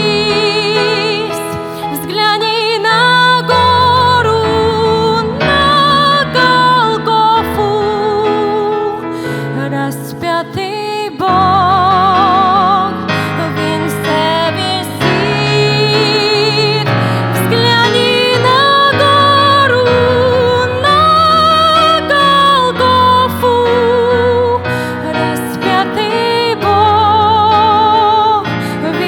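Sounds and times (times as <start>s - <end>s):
hymn singing with vibrato: 0.0s - 29.0s.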